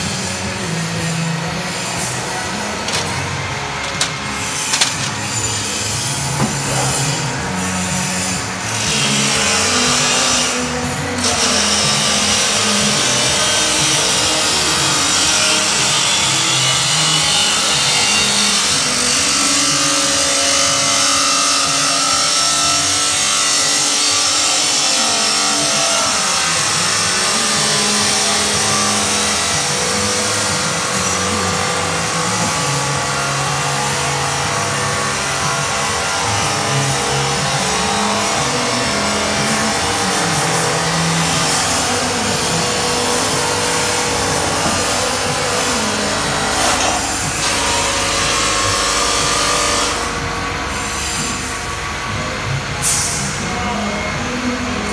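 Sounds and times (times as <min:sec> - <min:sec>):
grinder hissing grind: 0:00.0 - 0:54.9.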